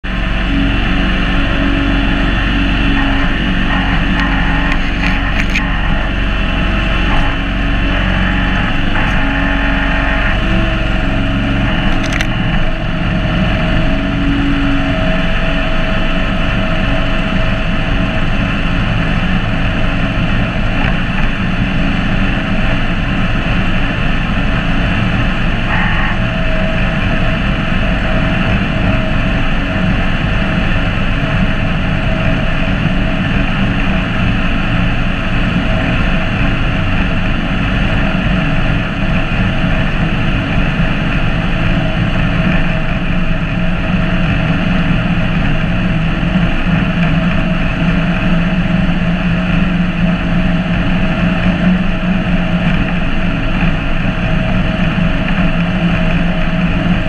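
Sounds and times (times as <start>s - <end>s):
garden tractor engine running: 0.0s - 57.0s.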